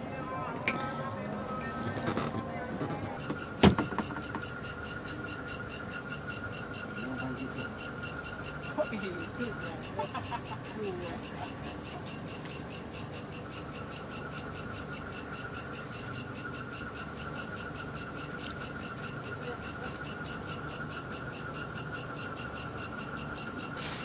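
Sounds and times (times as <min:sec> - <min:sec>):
crickets chirping: 0:00.0 - 0:24.0
insect trill: 0:01.0 - 0:24.0.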